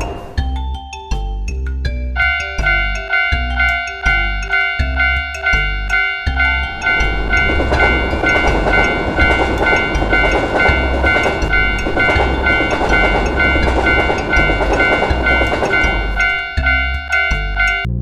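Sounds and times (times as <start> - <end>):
train rumbling past: 0.0 - 0.4, 2.2 - 17.9
railroad crossing bell ringing: 0.0 - 0.6, 2.1 - 18.0
train wheels clattering on rails: 2.2 - 17.9.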